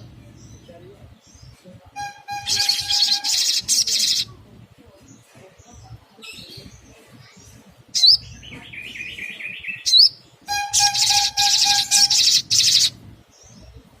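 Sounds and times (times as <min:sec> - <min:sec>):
sunbird calling and singing: 0:00.0 - 0:14.0.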